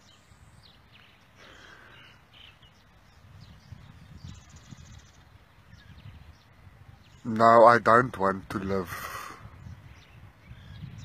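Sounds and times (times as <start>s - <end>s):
faint bird chirps: 0.0s - 7.4s, 9.3s - 11.0s.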